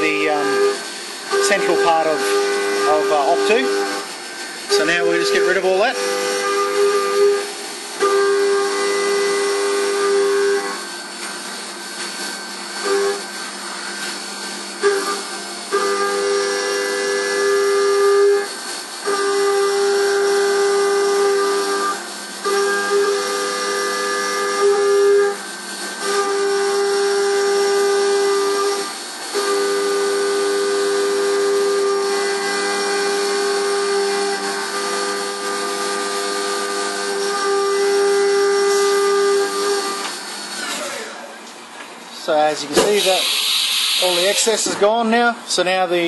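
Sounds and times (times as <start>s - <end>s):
milling machine cutting whine: 0.0s - 46.0s.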